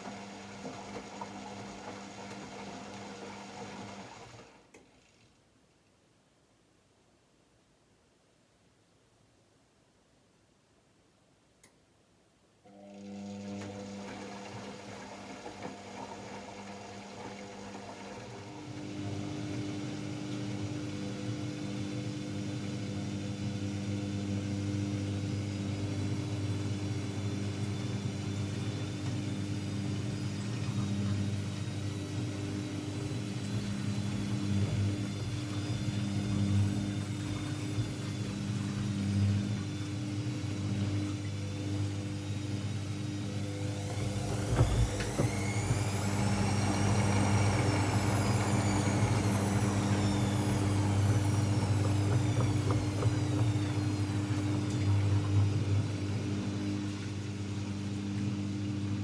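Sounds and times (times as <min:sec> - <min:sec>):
washing machine motor humming: 0:00.0 - 0:04.6, 0:12.7 - 0:59.0.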